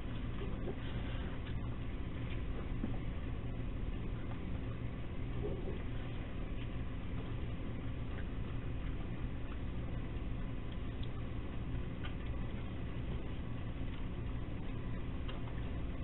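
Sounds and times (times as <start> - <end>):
microphone hiss and hum: 0.0 - 16.0
raccoons eating dry food: 0.0 - 16.0.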